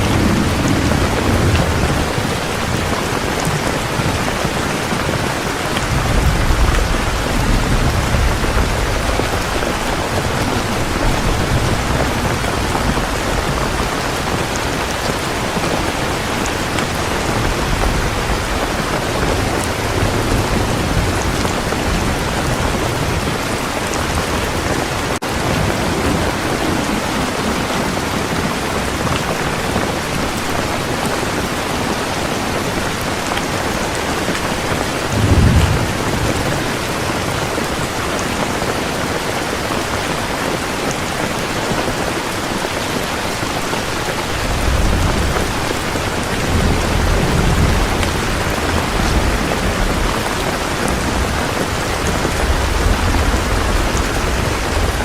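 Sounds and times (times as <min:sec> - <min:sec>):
thunder rumble: 0:00.0 - 0:30.7, 0:33.9 - 0:39.2, 0:44.2 - 0:55.0
heavy rain: 0:00.0 - 0:55.0.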